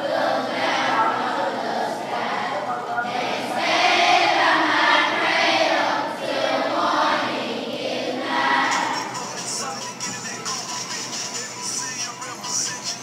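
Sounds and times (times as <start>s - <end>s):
children's choir singing: 0.0s - 12.8s.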